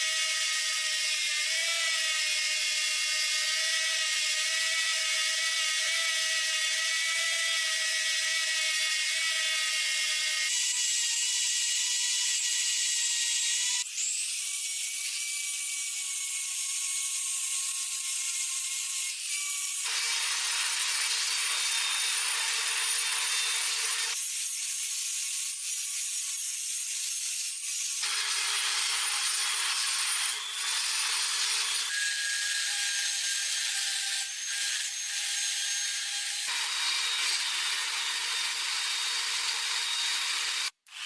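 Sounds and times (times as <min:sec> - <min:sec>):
power tool high whine: 0:00.0 - 0:41.0.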